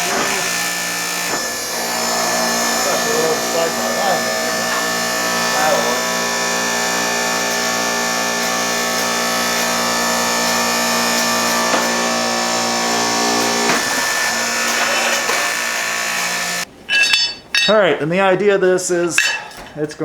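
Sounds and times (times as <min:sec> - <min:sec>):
electric shop machine whining: 0:00.0 - 0:16.7.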